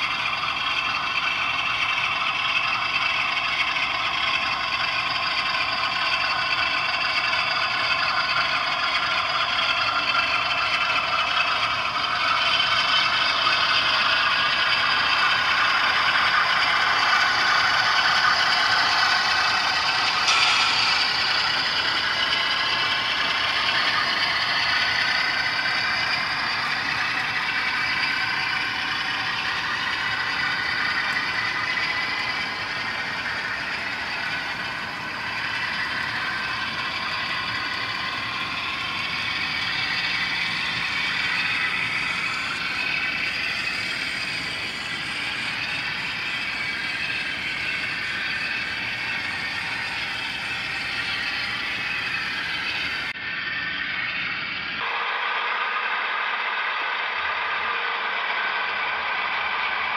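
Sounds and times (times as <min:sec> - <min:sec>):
model train motor whirring: 0:00.0 - 0:53.2.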